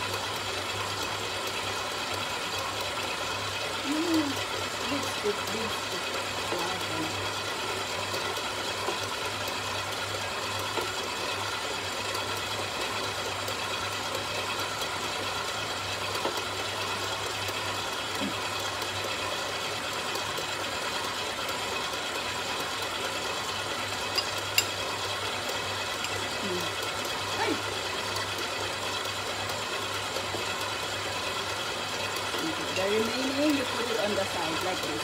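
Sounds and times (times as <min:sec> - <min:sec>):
stand mixer motor humming: 0:00.0 - 0:35.0.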